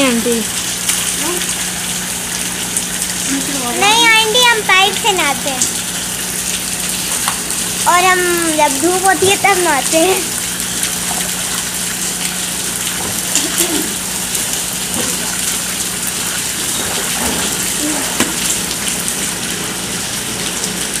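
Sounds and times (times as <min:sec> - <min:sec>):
water splashing from hose: 0:00.0 - 0:21.0.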